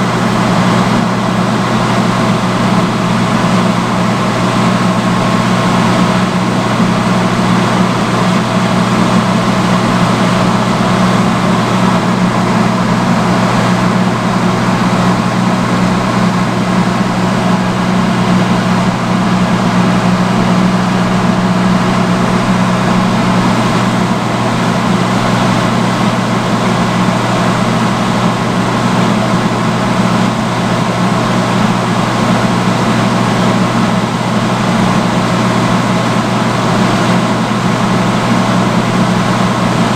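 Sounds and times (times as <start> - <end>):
hood hair dryer running: 0.0 - 39.9.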